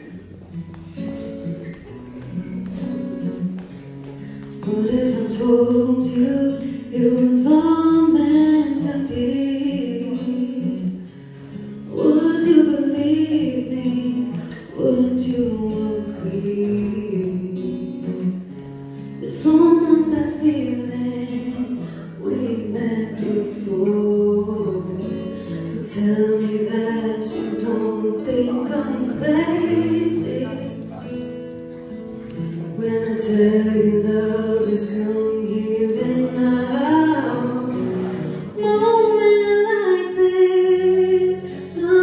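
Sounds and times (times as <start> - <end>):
acoustic guitar: 0.0 - 42.0
woman singing: 4.4 - 18.3, 19.1 - 30.8, 32.6 - 42.0.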